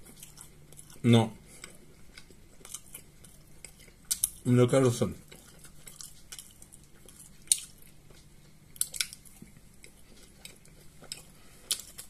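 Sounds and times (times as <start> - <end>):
quiet chewing: 0.0 - 12.0.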